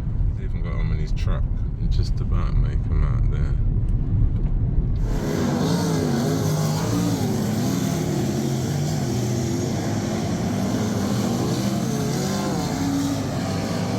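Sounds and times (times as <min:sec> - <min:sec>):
low driving rumble: 0:00.0 - 0:13.9
vehicle engine rising and falling: 0:00.0 - 0:13.9.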